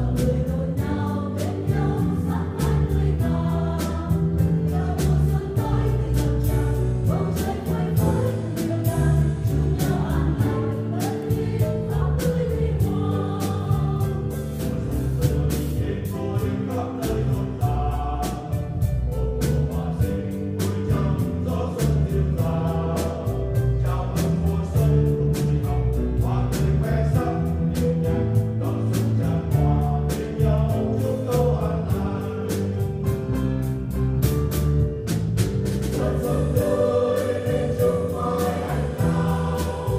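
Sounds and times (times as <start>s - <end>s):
choir singing a hymn: 0.0s - 34.1s, 35.6s - 39.9s
drum kit steady beat: 0.0s - 39.9s.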